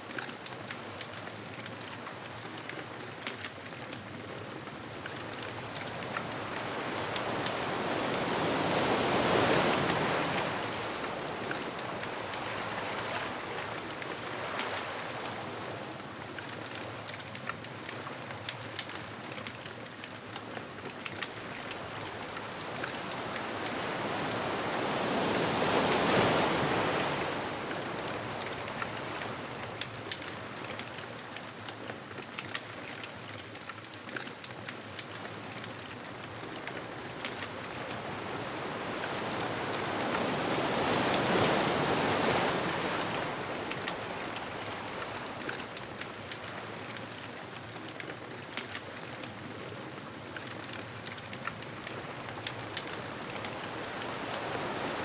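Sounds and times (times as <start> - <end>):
ocean waves breaking on beach: 0.0 - 55.0
bonfire crackling: 0.1 - 55.0.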